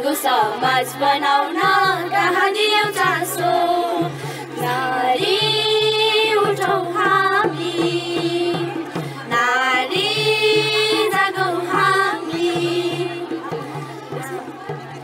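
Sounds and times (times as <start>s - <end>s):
girls singing together: 0.0s - 14.7s.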